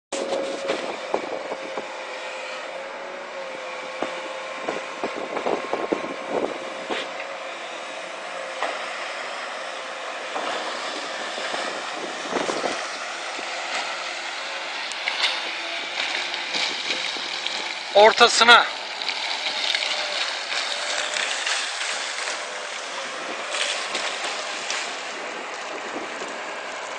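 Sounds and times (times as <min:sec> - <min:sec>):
excavator engine and hydraulic drone: 0:00.1 - 0:26.9
steady whine: 0:00.2 - 0:26.9.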